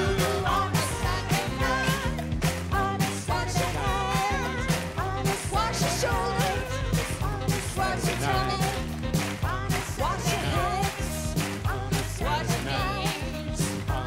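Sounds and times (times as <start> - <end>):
upbeat live band music: 0.0 - 14.0
voices singing along: 0.0 - 14.0.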